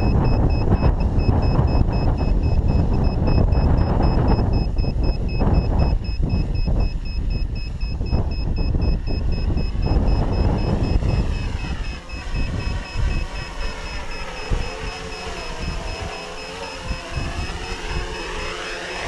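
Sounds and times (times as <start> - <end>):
quadcopter motors whining: 0.0 - 19.0
rapid high-pitched beeping: 0.0 - 19.0
wind buffeting microphone: 0.0 - 19.0.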